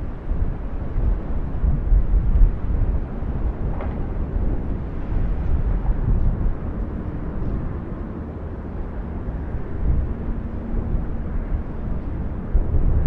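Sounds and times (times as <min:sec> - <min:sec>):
volcano deep rumble: 0:00.0 - 0:13.0.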